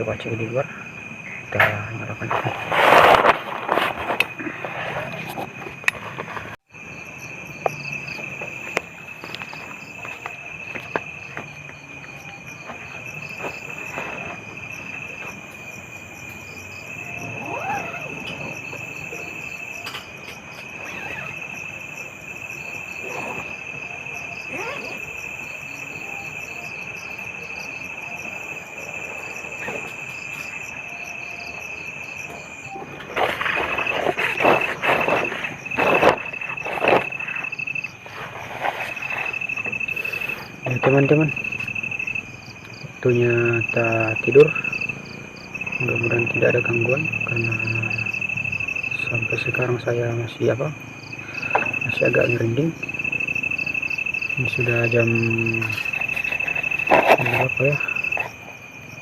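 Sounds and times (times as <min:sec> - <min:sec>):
cricket drone: 0:00.0 - 0:59.0
pulsing insect trills: 0:00.0 - 0:59.0.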